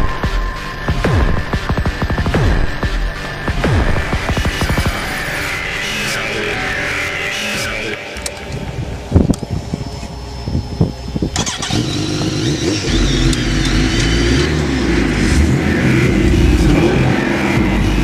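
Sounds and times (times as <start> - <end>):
vehicle engine starting and rumbling: 0.0 - 18.0.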